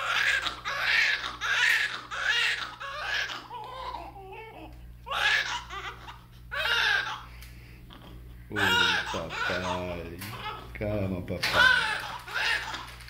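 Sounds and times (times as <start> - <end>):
baby crying: 0.0 - 7.3, 7.9 - 10.8, 11.4 - 13.0.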